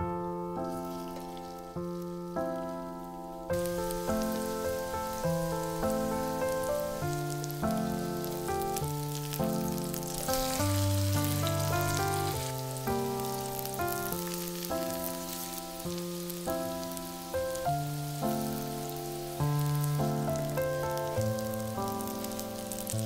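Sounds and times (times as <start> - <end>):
fritters sizzling in oil: 0.6 - 23.0.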